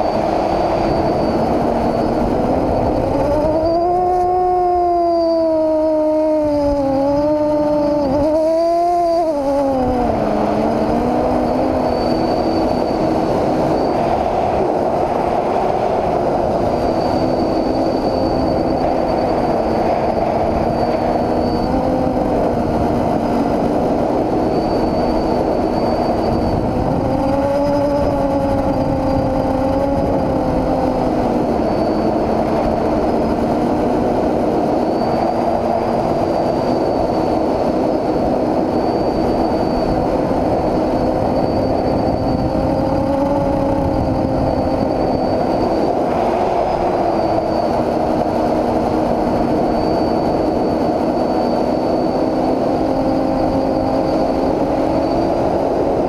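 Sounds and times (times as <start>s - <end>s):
constant rushing noise: 0.0s - 56.0s
quadcopter motors buzzing: 0.0s - 56.0s.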